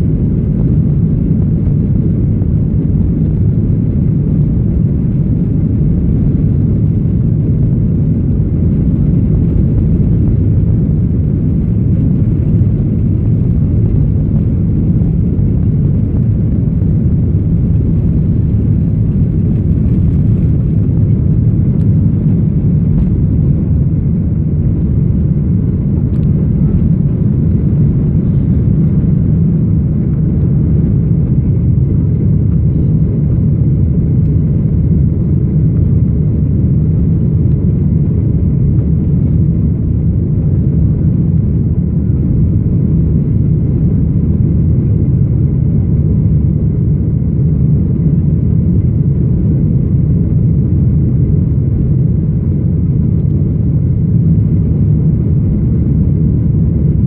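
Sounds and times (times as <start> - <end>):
jet engines rumbling inside cabin: 0.0 - 57.0.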